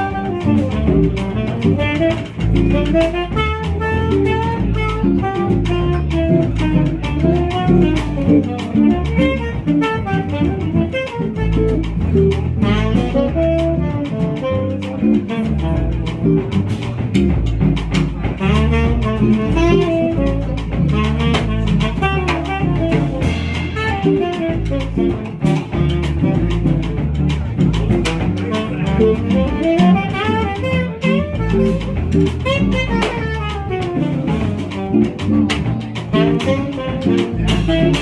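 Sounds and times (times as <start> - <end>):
double bass: 0.0 - 38.0
drum kit cymbals: 0.0 - 38.0
jazz guitar: 0.0 - 38.0.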